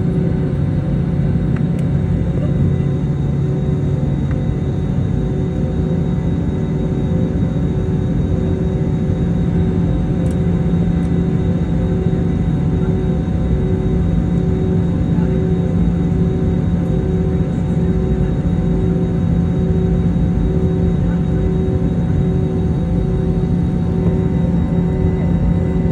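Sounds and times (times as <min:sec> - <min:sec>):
jet engines rumbling in cabin: 0:00.0 - 0:25.9.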